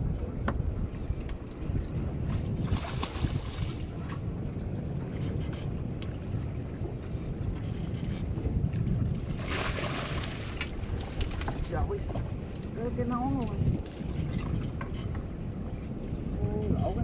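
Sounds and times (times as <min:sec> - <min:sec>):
water lapping at a boat: 0:00.0 - 0:17.0
wind buffeting microphone: 0:00.0 - 0:17.0.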